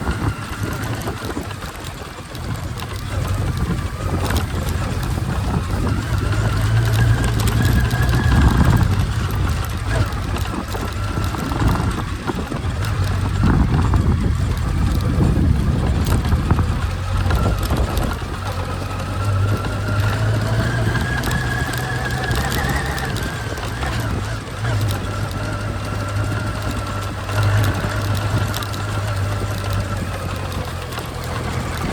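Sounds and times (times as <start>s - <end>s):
motorcycle engine running: 0.0s - 31.9s
wind and road noise: 0.0s - 31.9s.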